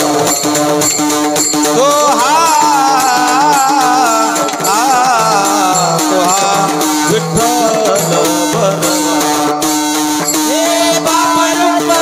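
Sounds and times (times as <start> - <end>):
instrumental accompaniment: 0.0 - 12.0
rhythmic percussion: 0.0 - 12.0
man singing melodic line: 1.6 - 12.0.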